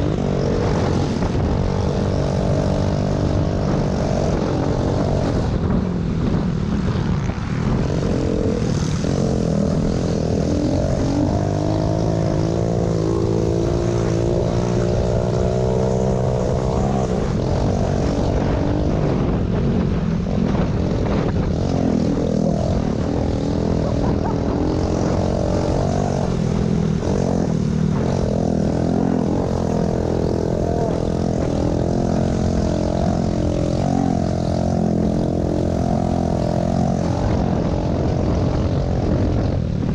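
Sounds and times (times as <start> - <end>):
pit bike engine revving: 0.0 - 39.5.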